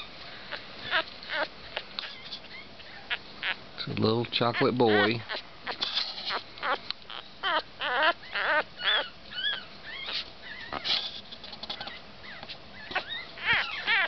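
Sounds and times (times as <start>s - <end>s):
puppy whimpering and squealing: 0.0s - 3.6s, 4.4s - 11.1s, 11.7s - 14.0s.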